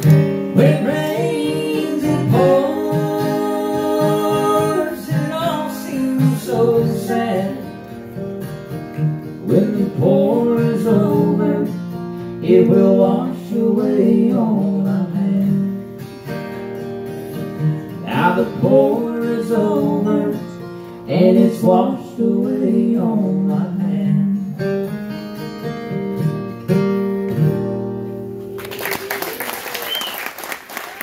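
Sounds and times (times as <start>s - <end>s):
acoustic guitar strumming: 0.0s - 28.6s.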